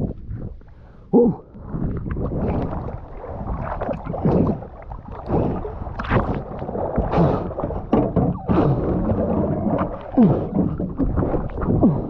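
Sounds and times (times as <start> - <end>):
wind on microphone: 0.0 - 0.7, 1.3 - 12.0
water gurgling: 1.2 - 12.0
water sloshing and splashing: 1.4 - 12.0.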